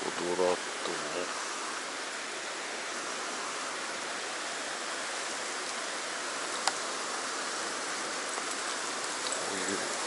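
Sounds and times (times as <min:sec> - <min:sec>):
stream water rushing over rocks: 0:00.0 - 0:10.0.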